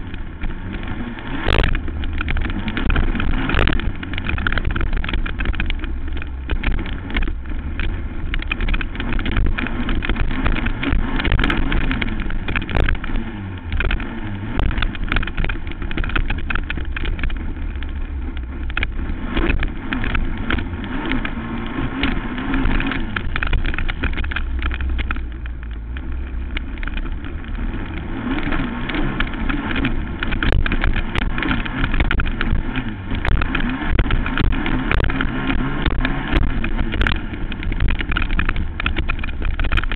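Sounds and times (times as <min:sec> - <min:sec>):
knocks and clatter from bumps: 0:00.0 - 0:39.9
quad engine revving: 0:00.0 - 0:39.9.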